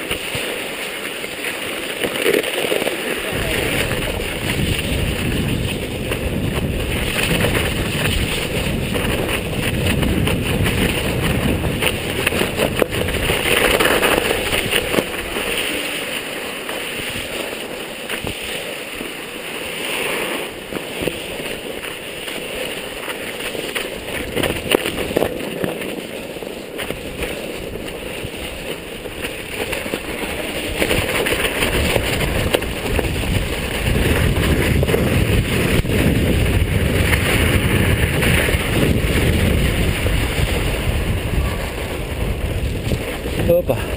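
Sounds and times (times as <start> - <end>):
bike tyres running through snow: 0.0 - 43.9
wind rushing over microphone: 2.8 - 25.8, 26.9 - 43.9.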